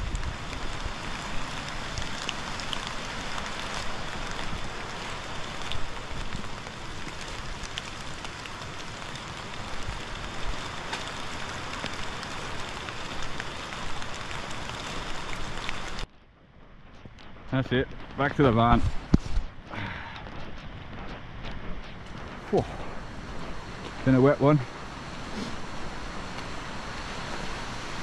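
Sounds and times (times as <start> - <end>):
raindrop ticks: 0.0 - 28.0
steady rain hiss: 0.0 - 28.0.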